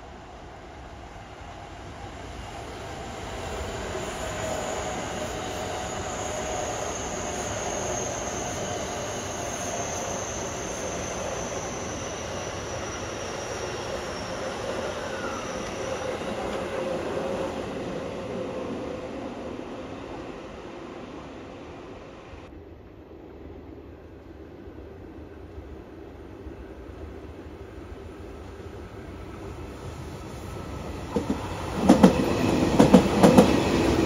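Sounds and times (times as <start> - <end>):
train wheels rumbling on rail: 0.0 - 21.3, 25.1 - 34.0.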